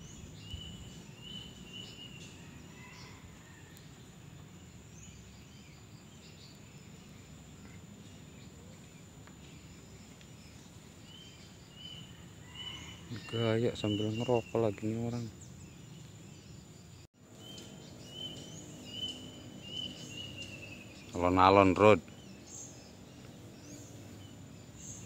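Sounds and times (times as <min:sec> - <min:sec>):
bird chirps: 0:00.0 - 0:25.0
high-pitched insect hum: 0:00.0 - 0:25.0.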